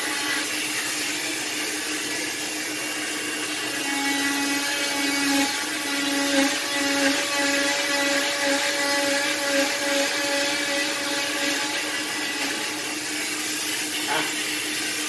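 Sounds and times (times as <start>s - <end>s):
cast saw motor whine: 0.0s - 15.0s.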